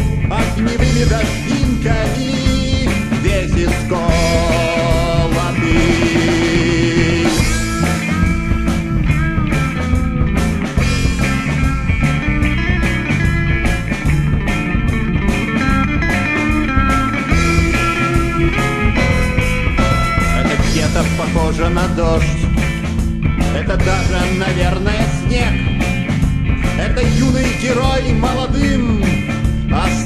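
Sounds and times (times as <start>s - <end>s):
bass guitar: 0.0s - 30.0s
drums: 0.0s - 30.0s
electric guitars: 0.0s - 30.0s.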